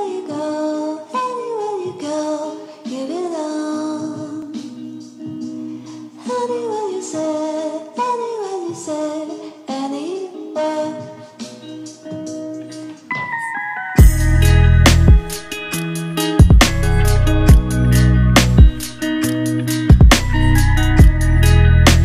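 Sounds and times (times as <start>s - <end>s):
song with high singing voice: 0.0s - 22.0s.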